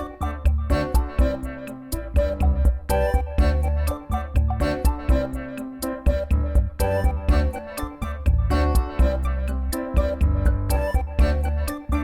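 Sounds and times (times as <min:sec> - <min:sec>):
music with heavy bass and beat: 0:00.0 - 0:12.0.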